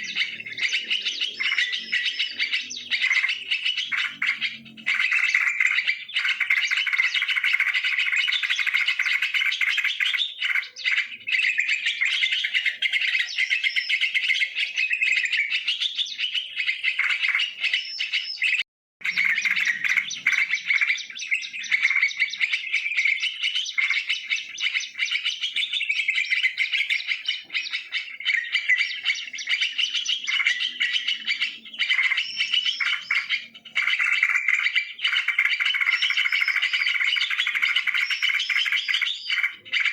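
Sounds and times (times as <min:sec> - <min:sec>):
bulbuls chattering and calling: 0:00.0 - 0:39.9.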